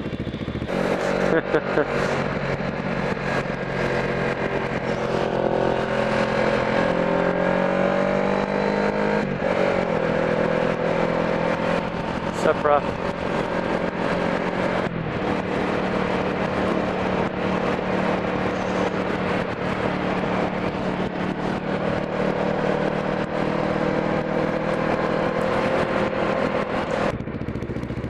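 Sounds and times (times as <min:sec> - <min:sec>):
motorcycle engine cruising: 0:00.0 - 0:28.0
wind and road noise: 0:00.0 - 0:28.0.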